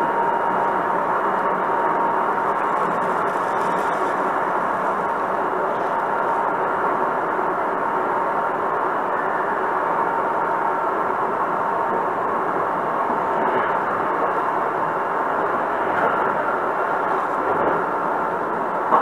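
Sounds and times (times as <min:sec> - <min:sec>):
faint steady whine: 0:00.0 - 0:19.0
steady train hum: 0:00.0 - 0:19.0.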